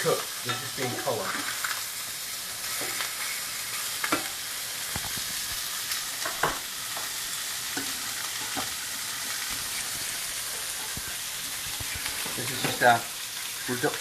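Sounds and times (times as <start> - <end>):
steaks sizzling in a frying pan: 0.0 - 14.0.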